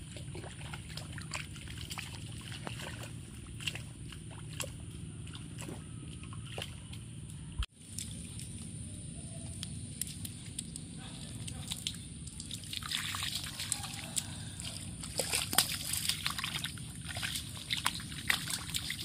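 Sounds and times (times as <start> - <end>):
splashing in a muddy puddle: 0.0 - 19.0.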